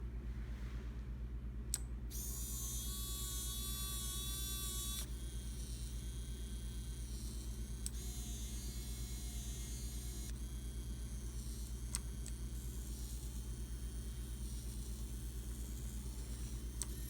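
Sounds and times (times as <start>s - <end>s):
servo motors buzzing hum: 2.1s - 17.0s
gear whine: 2.2s - 17.0s.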